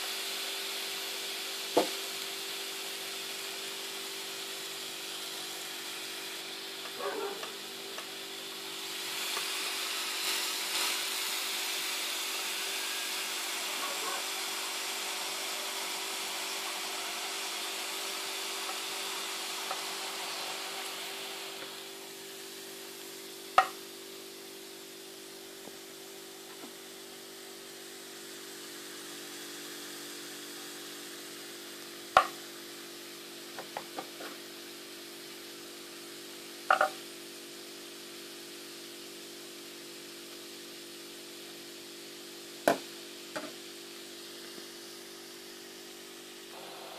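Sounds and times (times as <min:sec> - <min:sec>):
grapes sizzling in waffle maker: 0:00.0 - 0:46.9.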